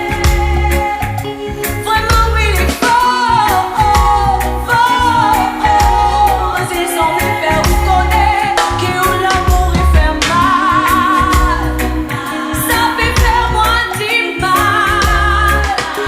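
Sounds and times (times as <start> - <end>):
song with sung melody: 0.0 - 16.0.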